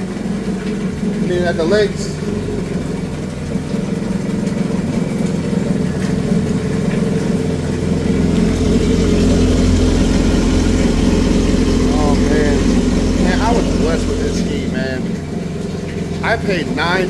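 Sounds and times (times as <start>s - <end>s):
jet ski engine idling: 0.0s - 17.0s.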